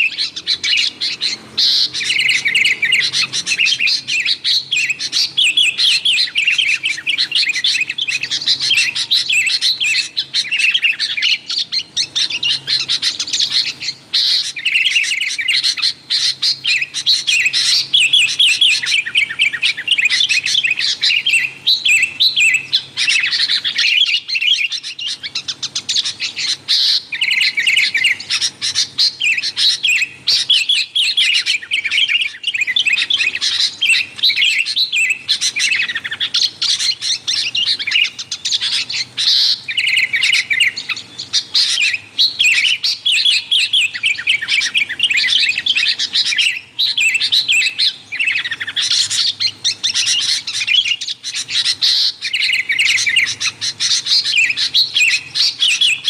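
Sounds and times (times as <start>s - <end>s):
bulbul chirping: 0.0s - 56.0s.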